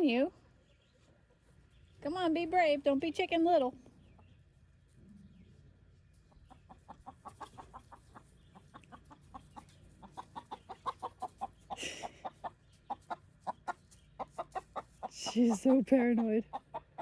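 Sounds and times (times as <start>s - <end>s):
chickens clucking: 0.1s - 2.3s, 3.6s - 17.0s.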